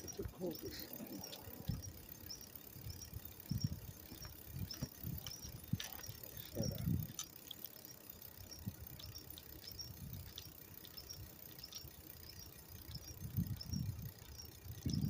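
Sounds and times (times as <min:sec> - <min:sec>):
bike clicking and rattling: 0:00.0 - 0:15.0
bicycle thumps and rumble: 0:01.3 - 0:15.0.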